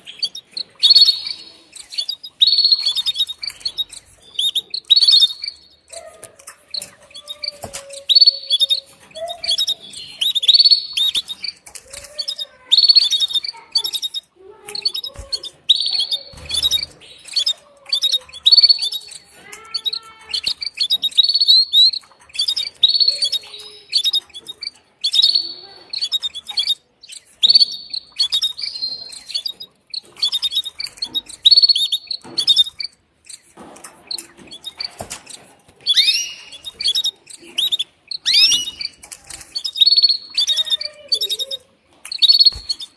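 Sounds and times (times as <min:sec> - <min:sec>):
canary chirping: 0:00.0 - 0:42.9.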